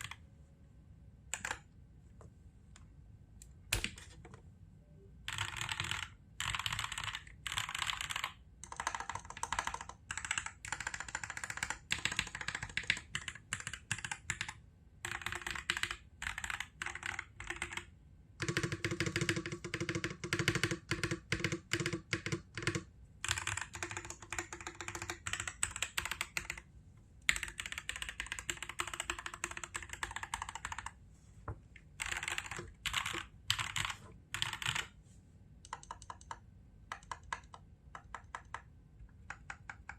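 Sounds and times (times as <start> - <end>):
mechanical keyboard typing: 0.0 - 0.2, 1.3 - 1.7, 3.7 - 4.4, 5.3 - 26.7, 27.3 - 31.0, 31.8 - 35.0, 35.6 - 39.9.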